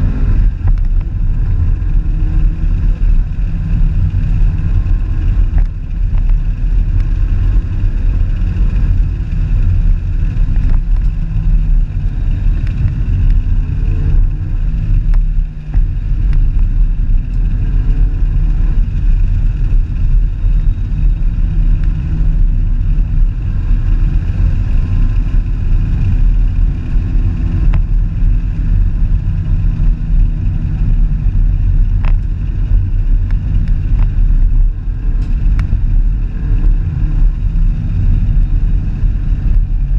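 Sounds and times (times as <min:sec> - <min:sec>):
car driving: 0:00.0 - 0:39.9.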